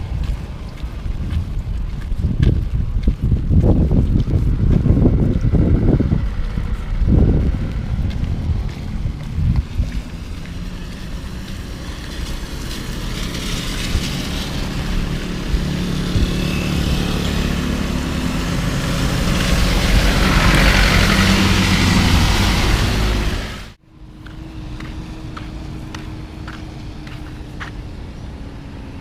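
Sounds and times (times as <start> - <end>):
low rumble: 0.0 - 27.2.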